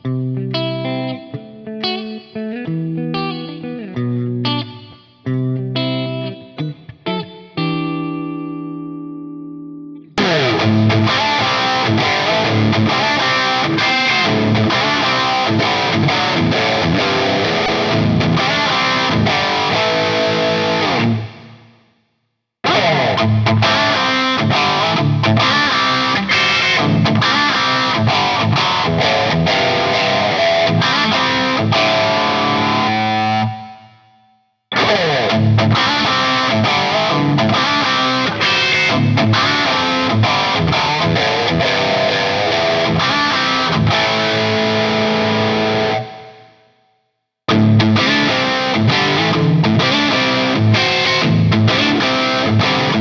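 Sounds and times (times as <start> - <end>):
distorted electric guitar: 0.0 - 22.0, 22.6 - 46.7, 47.5 - 53.0.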